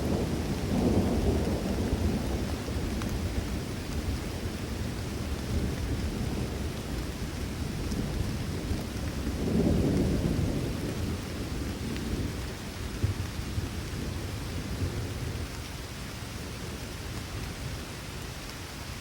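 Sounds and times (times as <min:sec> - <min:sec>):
rolling thunder: 0:00.0 - 0:15.6
steady rain: 0:00.0 - 0:19.0.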